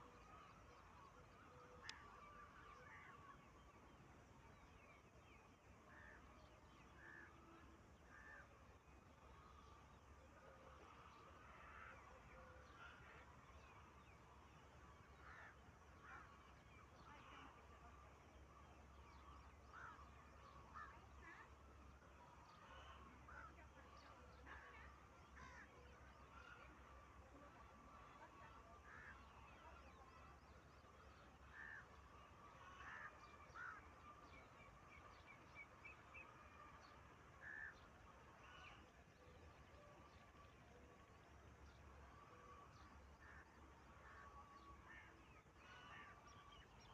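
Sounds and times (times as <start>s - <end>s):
faint bird calls: 0.0s - 46.9s
low steady hum: 0.0s - 46.9s.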